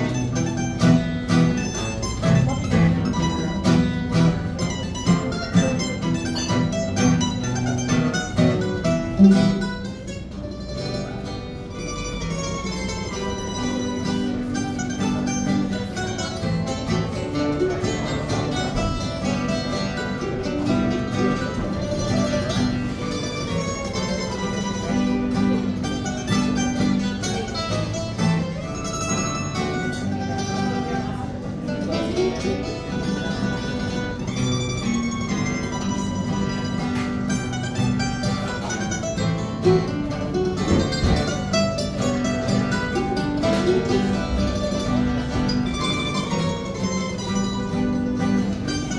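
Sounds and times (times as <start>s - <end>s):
acoustic guitars and mandolin playing: 0.0s - 48.9s.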